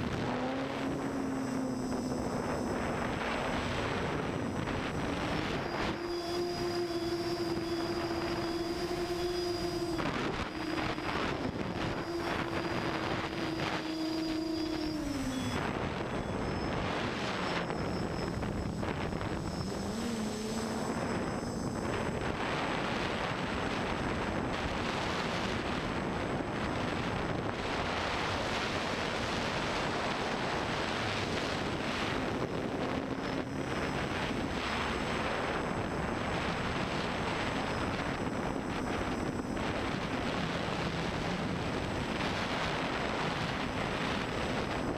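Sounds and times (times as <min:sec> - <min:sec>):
quadcopter motors whining: 0:00.0 - 0:44.9
steady rushing noise: 0:00.0 - 0:44.9.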